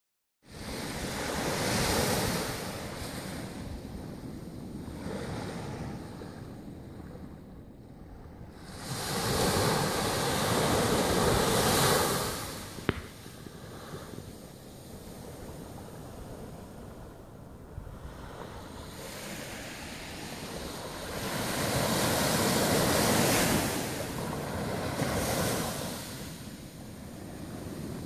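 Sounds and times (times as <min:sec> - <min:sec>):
small waves breaking on beach: 0:00.5 - 0:06.4, 0:08.5 - 0:28.0.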